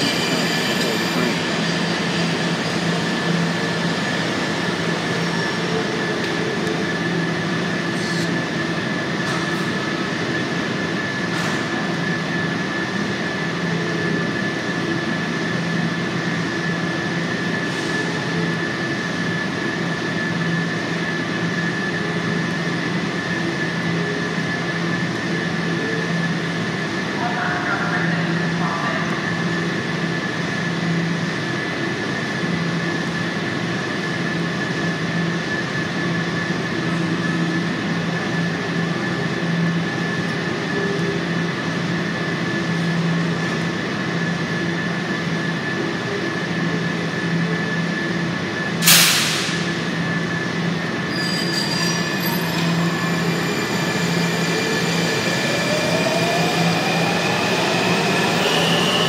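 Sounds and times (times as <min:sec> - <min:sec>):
train electrical hum: 0:00.0 - 0:59.0
train whine pulling out: 0:00.0 - 0:59.0.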